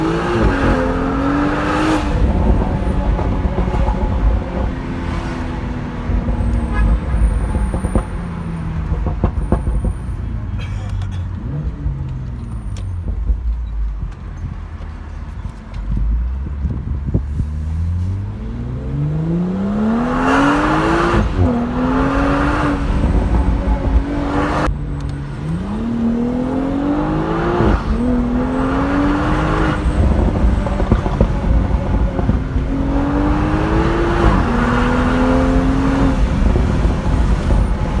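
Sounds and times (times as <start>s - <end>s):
car engine accelerating hard: 0.0s - 38.0s
road noise: 0.0s - 38.0s.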